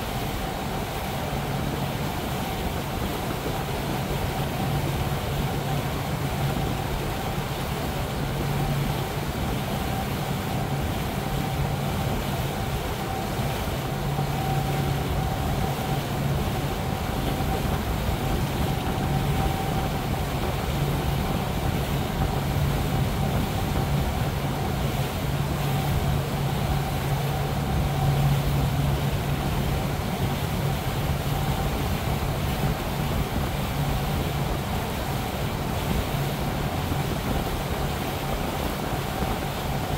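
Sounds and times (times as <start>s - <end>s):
boat engine droning: 0.0s - 39.9s
wind and water rushing: 0.0s - 39.9s.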